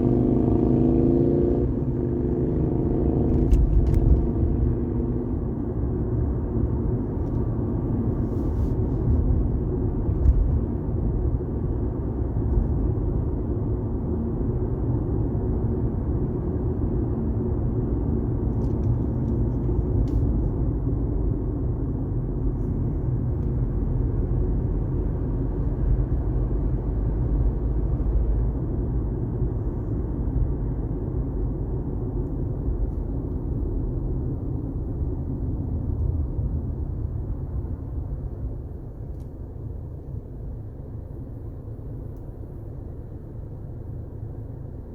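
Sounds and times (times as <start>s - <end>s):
car driving on highway: 0.0s - 44.9s.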